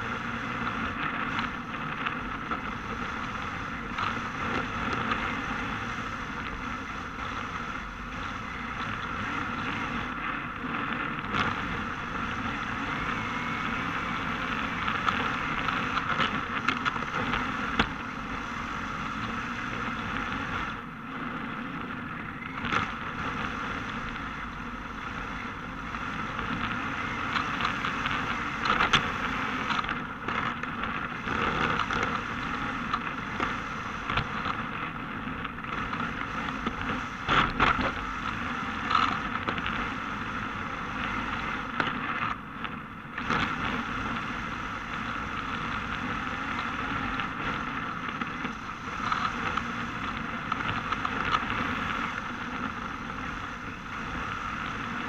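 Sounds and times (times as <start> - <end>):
rc car drivetrain and tyres rushing: 0.0 - 55.0.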